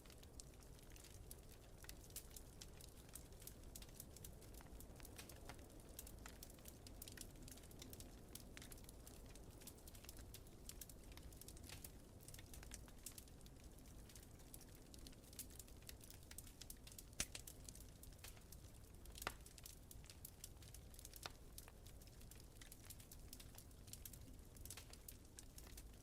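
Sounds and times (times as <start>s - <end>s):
fire low rumble: 0.0s - 26.0s
wood fire crackling: 0.0s - 26.0s.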